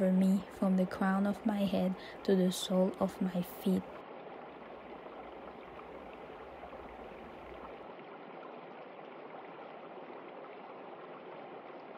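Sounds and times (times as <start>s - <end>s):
stream running over rocks: 0.0s - 11.9s.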